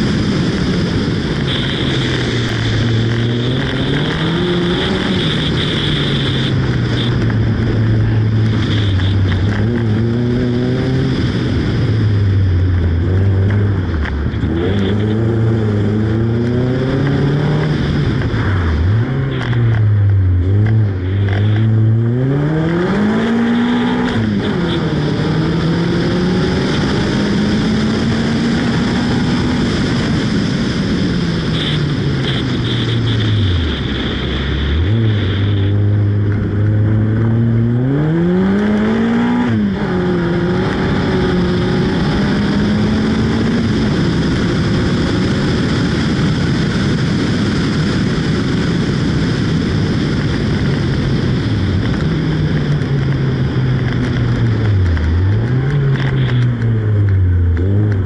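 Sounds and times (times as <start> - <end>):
car engine revving through gears: 0.2 - 30.8, 31.4 - 45.9, 51.6 - 58.0.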